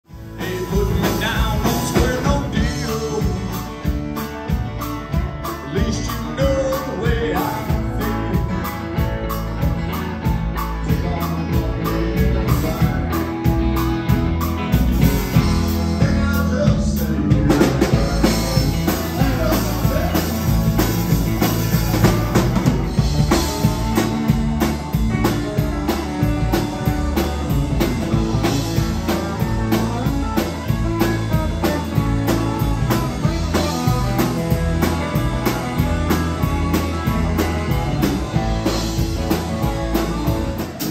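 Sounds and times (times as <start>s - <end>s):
electric and acoustic guitars: 0.0s - 40.9s
drum kit beat: 0.1s - 40.9s.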